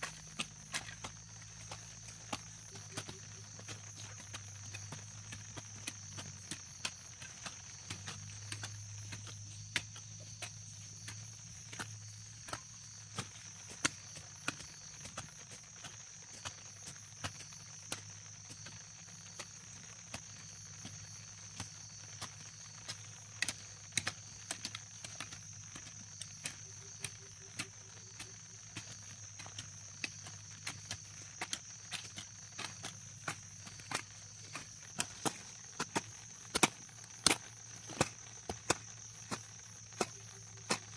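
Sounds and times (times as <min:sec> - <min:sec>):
hoes chopping into soil: 0:00.0 - 0:40.9
insects trilling: 0:00.0 - 0:40.9.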